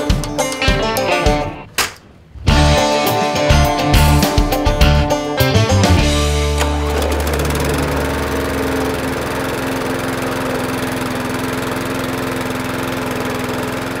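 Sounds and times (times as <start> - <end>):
lawn mower engine running: 0.0 - 14.0.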